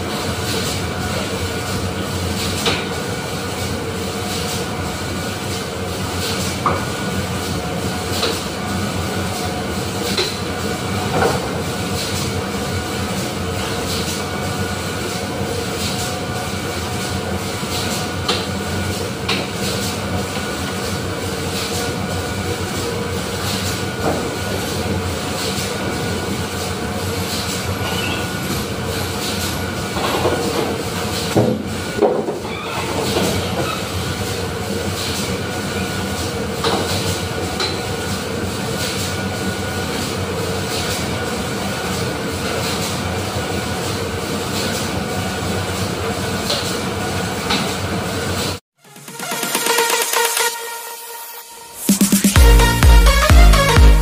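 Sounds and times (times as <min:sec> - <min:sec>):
factory machinery roar: 0:00.0 - 0:54.0.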